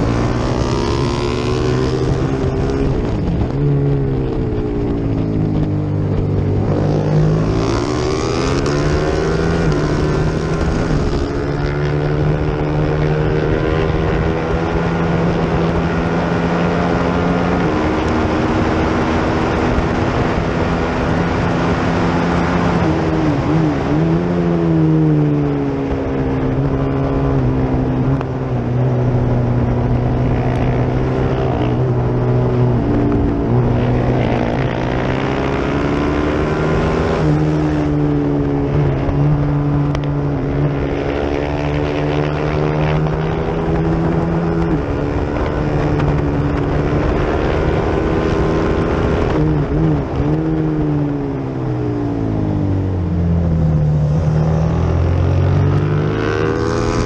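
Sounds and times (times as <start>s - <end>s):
motorcycle engine at high revs: 0.0s - 57.0s
wind rush: 0.0s - 57.0s.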